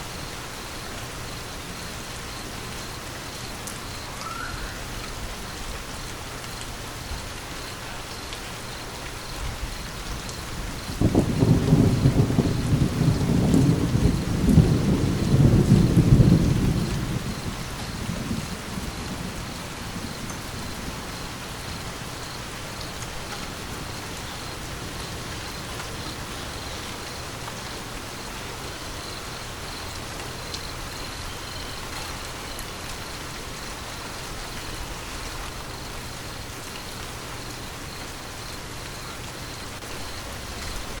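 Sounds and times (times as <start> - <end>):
rain pattering on surfaces: 0.0 - 41.0.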